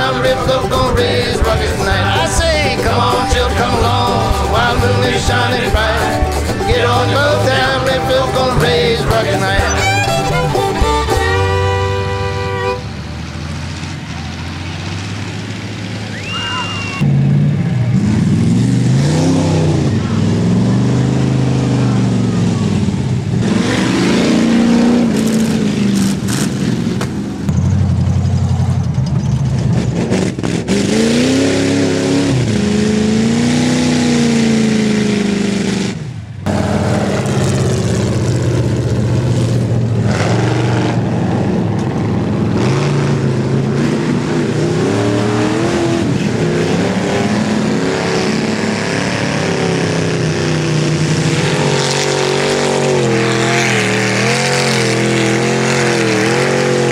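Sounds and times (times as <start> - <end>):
truck engines revving: 0.0 - 56.9.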